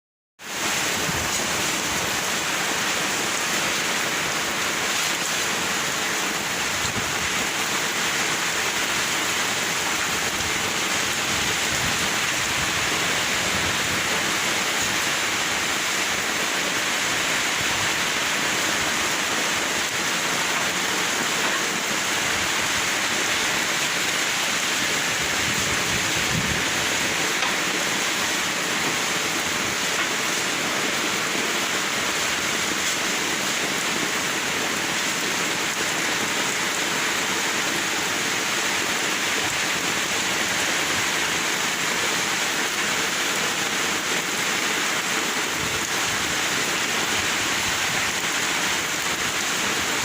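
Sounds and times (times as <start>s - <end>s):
heavy rain pouring: 0.4s - 50.0s.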